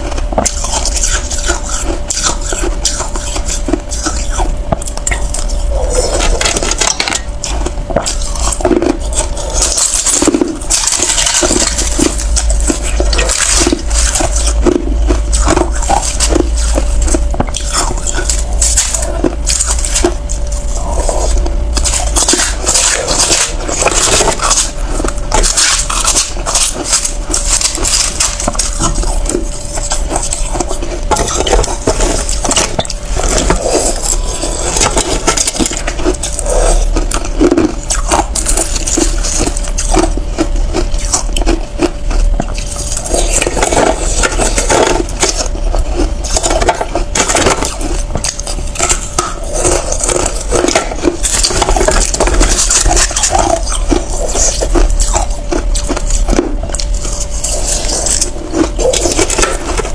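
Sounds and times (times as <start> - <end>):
person crunching ice: 0.0 - 59.9.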